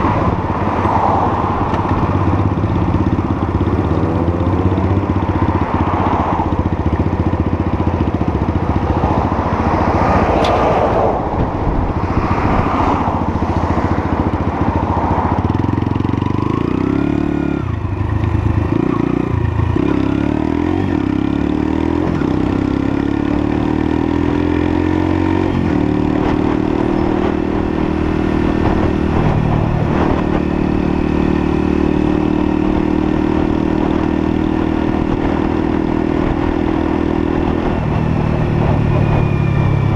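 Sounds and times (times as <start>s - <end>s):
motorcycle engine running: 0.0s - 10.6s, 13.1s - 39.9s
wind rushing over microphone: 0.0s - 19.8s, 21.8s - 39.9s.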